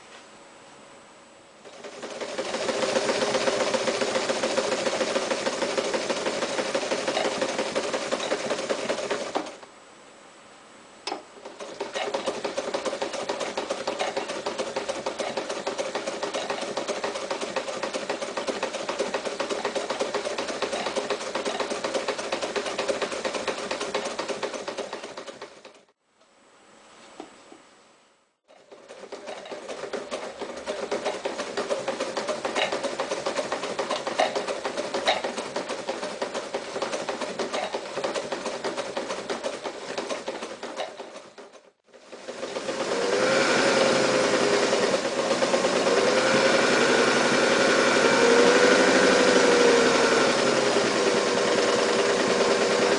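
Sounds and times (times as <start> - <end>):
electric sewing machine running: 1.6 - 9.6, 11.4 - 25.9, 28.6 - 52.9.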